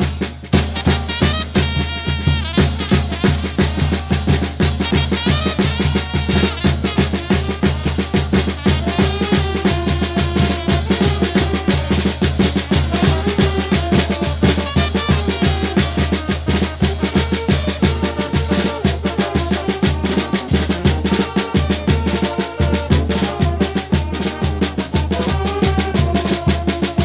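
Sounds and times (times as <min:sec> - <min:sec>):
brass band with drums: 0:00.0 - 0:27.0.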